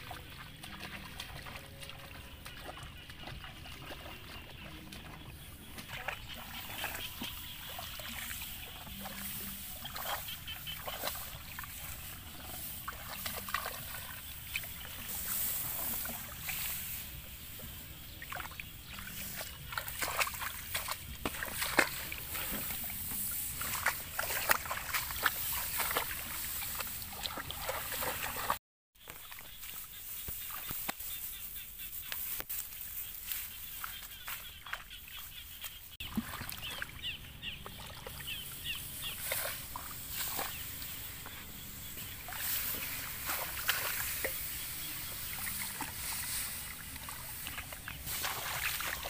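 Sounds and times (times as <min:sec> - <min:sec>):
footsteps splashing through water: 0:00.0 - 0:31.2, 0:32.1 - 0:49.0.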